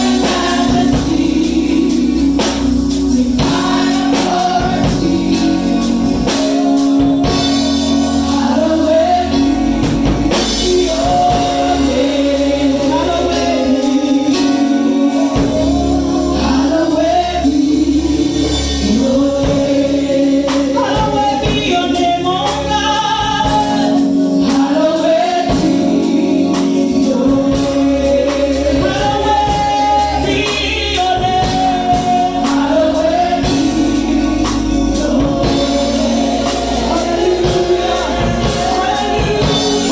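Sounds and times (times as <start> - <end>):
regular beat: 0.0 - 18.6, 19.2 - 39.9
bass line: 0.0 - 39.9
held keyboard chord: 0.0 - 39.9
voices singing: 0.0 - 39.9.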